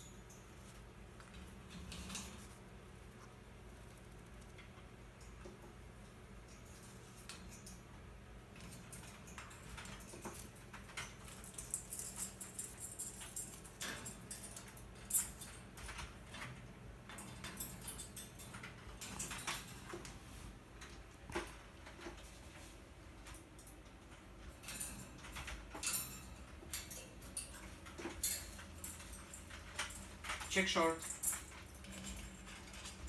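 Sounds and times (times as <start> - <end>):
parakeet clicking on metal cage bars: 0.1 - 20.2, 23.2 - 33.0.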